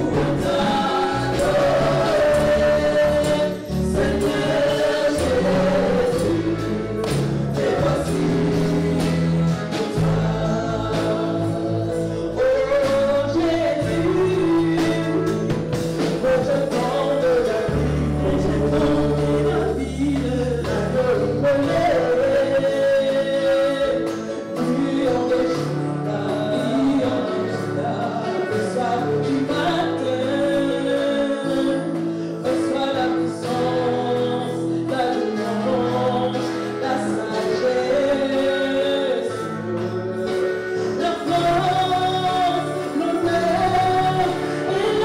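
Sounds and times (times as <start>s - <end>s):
steady percussion: 0.0s - 45.0s
sustained bass notes: 0.0s - 45.0s
voices singing gospel song: 0.0s - 45.0s.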